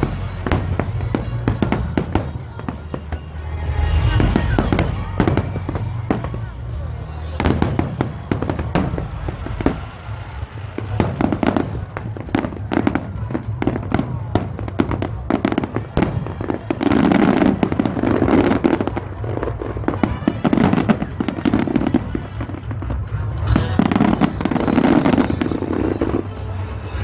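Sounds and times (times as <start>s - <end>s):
fireworks booming and cracking: 0.0s - 27.0s.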